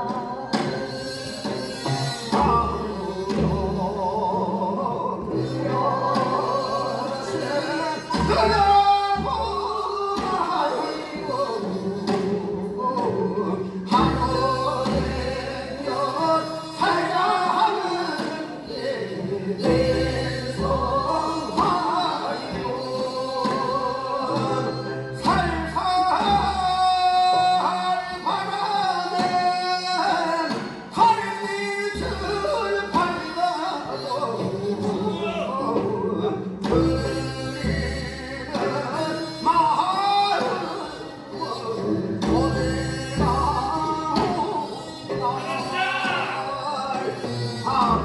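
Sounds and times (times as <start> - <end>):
instrumental accompaniment: 0.0 - 48.0.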